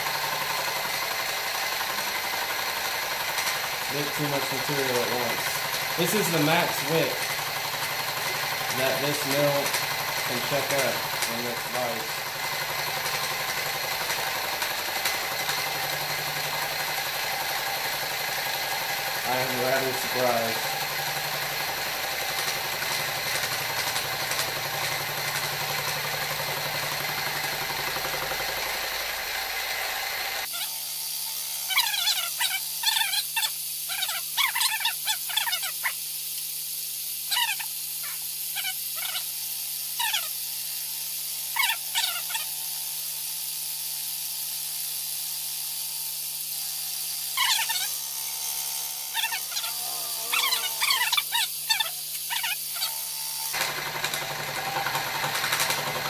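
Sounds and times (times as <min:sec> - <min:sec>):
cutter squealing: 0:00.0 - 0:56.0
mill motor hum: 0:00.0 - 0:56.0.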